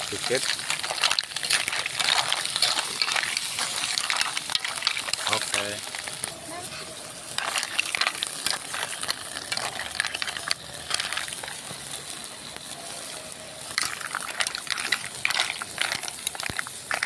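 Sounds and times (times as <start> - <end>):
pan sizzling: 0.0 - 17.0
shells clattering in a pan: 0.0 - 17.0.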